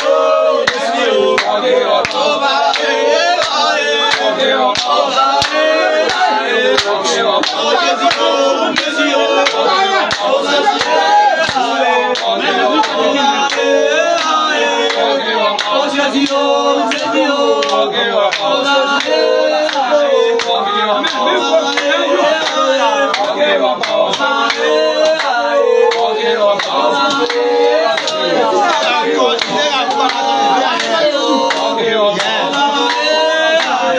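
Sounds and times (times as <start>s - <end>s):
group singing a cappella: 0.0s - 33.9s
handclaps: 0.0s - 33.9s.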